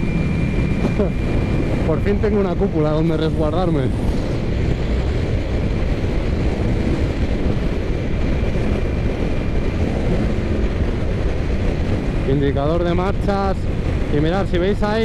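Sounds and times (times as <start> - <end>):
motorcycle engine droning: 0.0 - 15.0
wind rushing over microphone: 0.0 - 15.0.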